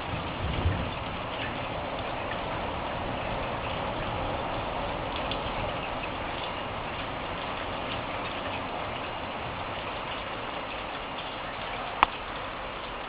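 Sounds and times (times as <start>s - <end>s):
light rain patter: 0.0s - 13.0s.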